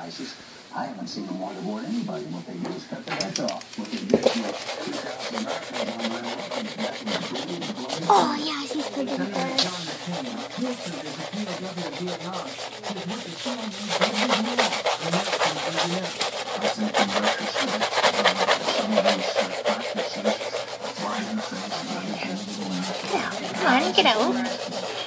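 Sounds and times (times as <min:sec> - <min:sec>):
rapid rubbing and scratching: 0:01.3 - 0:25.0.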